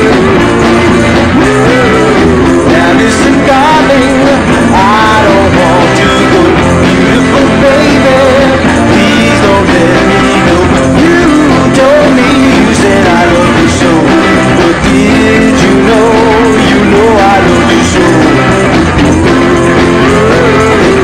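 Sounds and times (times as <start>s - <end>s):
song with band and guitar: 0.0s - 21.0s.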